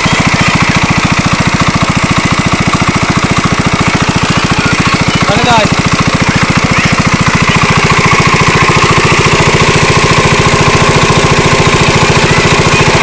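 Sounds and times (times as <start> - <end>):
small engine putter: 0.0 - 13.0.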